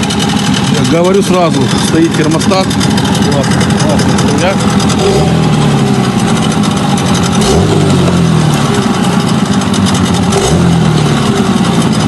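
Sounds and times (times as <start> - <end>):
outboard motor revving: 0.0 - 12.0.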